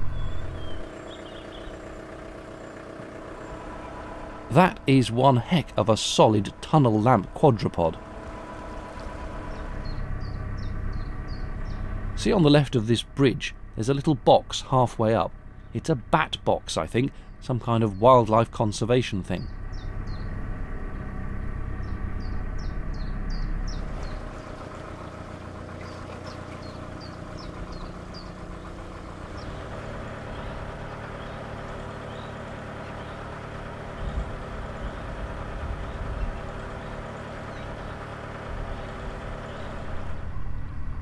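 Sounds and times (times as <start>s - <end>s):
small birds chirping: 0.0s - 40.2s
boat engine running: 0.0s - 41.0s.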